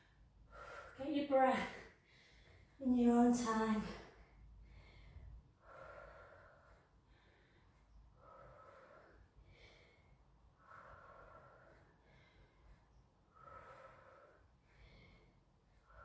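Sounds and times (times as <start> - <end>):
woman breathing slowly: 0.0 - 2.8, 3.7 - 16.0.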